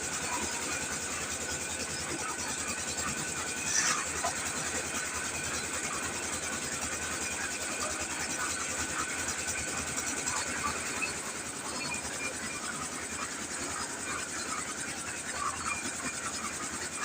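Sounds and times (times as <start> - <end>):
concrete mixer engine running: 0.0 - 17.0.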